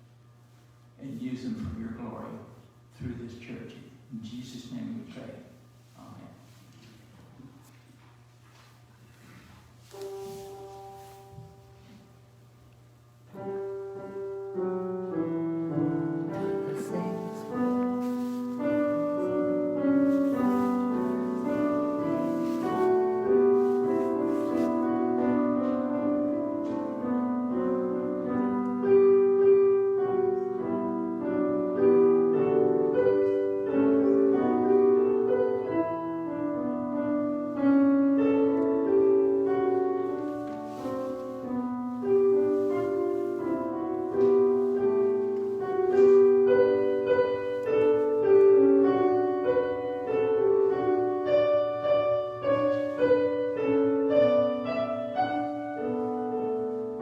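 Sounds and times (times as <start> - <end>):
slow piano music: 9.8 - 57.0.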